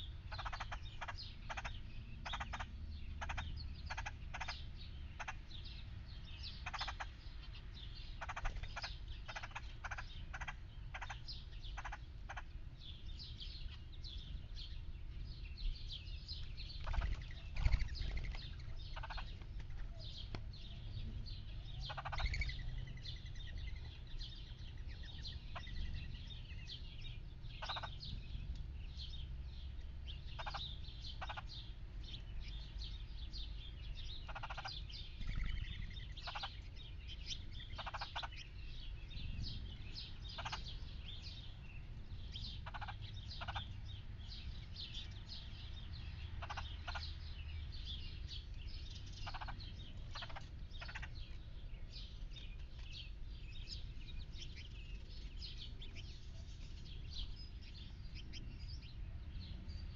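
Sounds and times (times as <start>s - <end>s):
woodpecker harsh calls: 0.0s - 14.7s, 16.2s - 56.1s
small birds chirping and singing: 0.0s - 59.9s.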